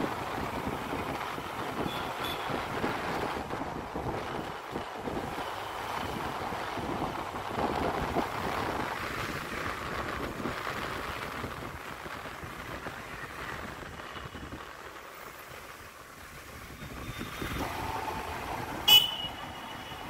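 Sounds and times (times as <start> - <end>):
vehicle and road noise: 0.0 - 20.0
wind rushing over microphone: 0.0 - 20.0.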